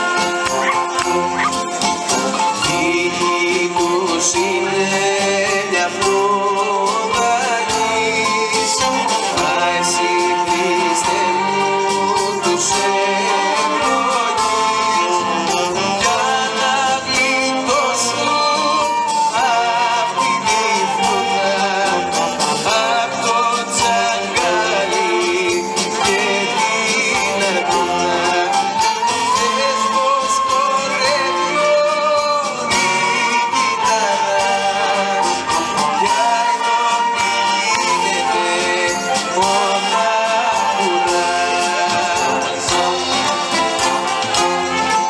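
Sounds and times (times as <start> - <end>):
percussion strikes: 0.0 - 45.0
wind band playing: 0.0 - 45.0.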